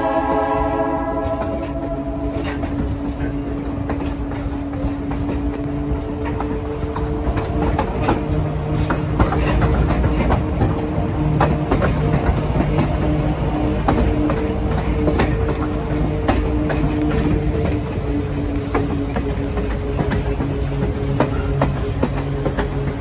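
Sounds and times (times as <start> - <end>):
locomotive engine drone: 0.0 - 23.0
wheels clicking over rail joints: 1.1 - 23.0.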